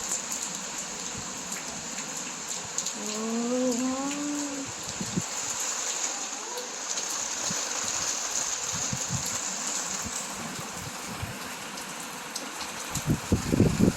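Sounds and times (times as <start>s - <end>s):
heavy rain pouring: 0.0s - 13.9s.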